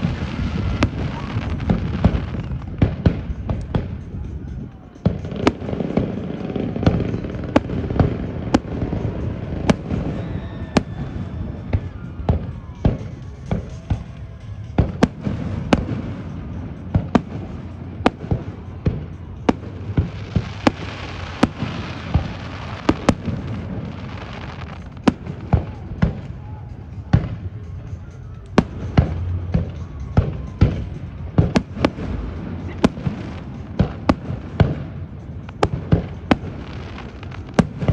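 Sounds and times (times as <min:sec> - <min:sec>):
fireworks bangs: 0:00.0 - 0:27.9, 0:28.6 - 0:37.9.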